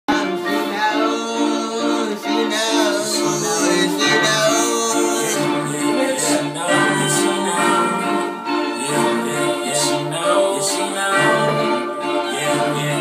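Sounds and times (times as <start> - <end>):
repeating melodic loop: 0.1 - 13.0.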